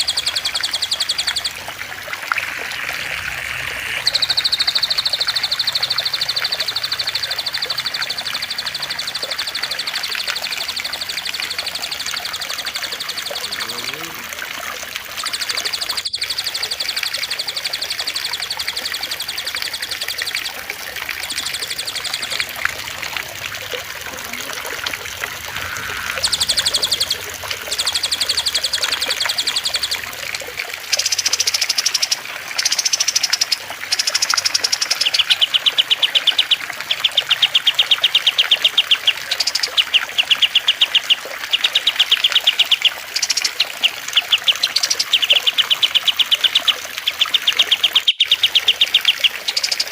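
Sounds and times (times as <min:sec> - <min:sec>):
running water trickling: 0:00.0 - 0:49.9
small birds chattering trills: 0:00.0 - 0:49.9.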